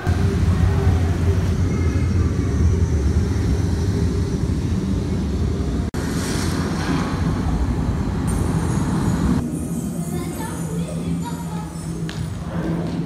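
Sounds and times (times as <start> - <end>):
deep steady rumbling: 0.0 - 13.0.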